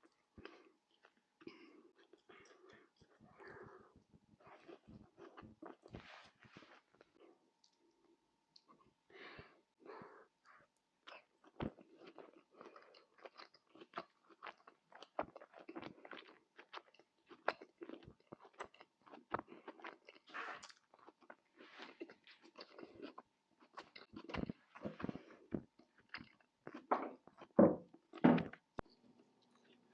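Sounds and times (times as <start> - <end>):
person chewing crunchy food: 0.0 - 8.9, 10.2 - 28.0.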